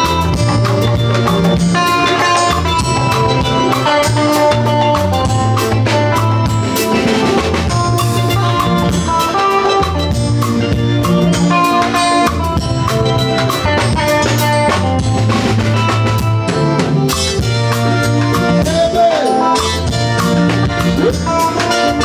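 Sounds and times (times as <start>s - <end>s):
drum kit: 0.0s - 22.0s
electric guitar: 0.0s - 22.0s
sustained bass line: 0.0s - 22.0s.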